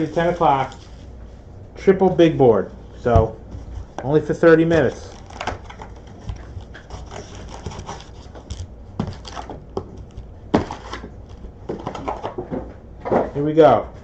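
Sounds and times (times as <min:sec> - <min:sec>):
rustling of card packs: 0:00.0 - 0:01.2, 0:03.0 - 0:13.8.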